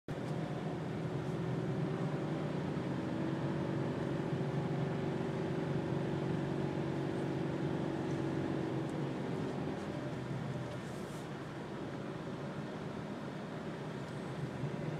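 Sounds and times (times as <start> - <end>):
car engine hum: 0.1 - 14.9
road and tyre noise: 0.1 - 14.9.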